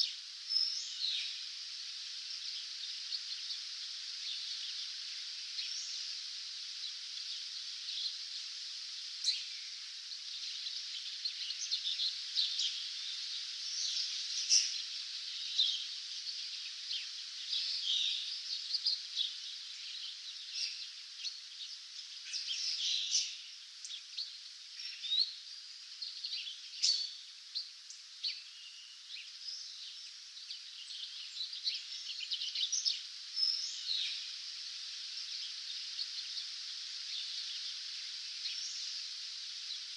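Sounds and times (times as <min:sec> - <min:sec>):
birds singing dawn chorus: 0:00.0 - 0:39.9
steady high hiss: 0:00.0 - 0:39.9.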